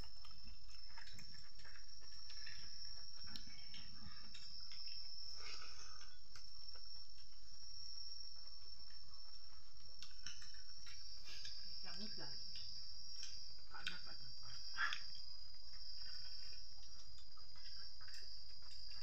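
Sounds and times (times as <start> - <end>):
chewing: 0.0 - 19.0
insects trilling: 0.0 - 19.0.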